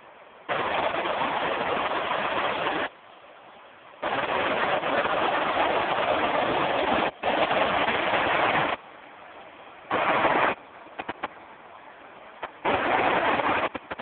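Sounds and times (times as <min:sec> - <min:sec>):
rush of falling water: 0:00.0 - 0:14.0.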